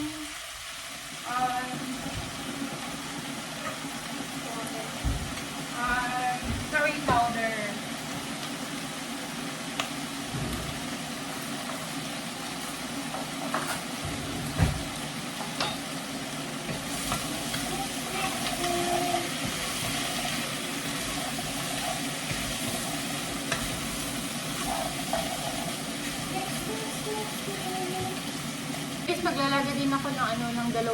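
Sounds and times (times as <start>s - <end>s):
vegetables sizzling in a pot: 0.0s - 30.9s.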